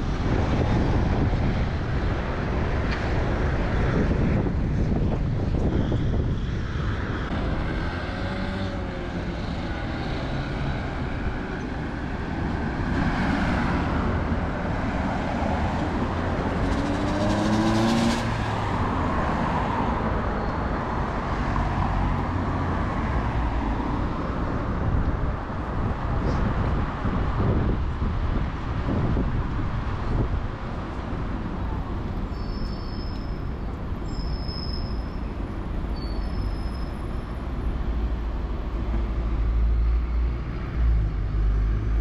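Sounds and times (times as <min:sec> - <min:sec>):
traffic low rumble: 0:00.0 - 0:42.0.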